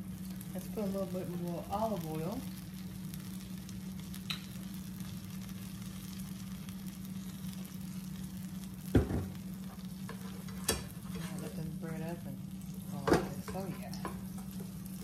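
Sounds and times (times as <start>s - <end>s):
sandwich sizzling in frying pan: 0.0s - 15.0s.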